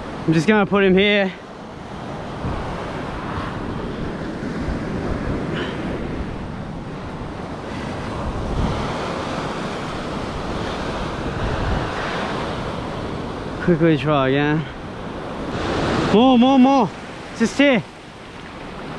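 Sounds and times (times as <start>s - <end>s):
surf washing onto beach: 0.0s - 18.9s
wind buffeting microphone: 1.7s - 18.9s.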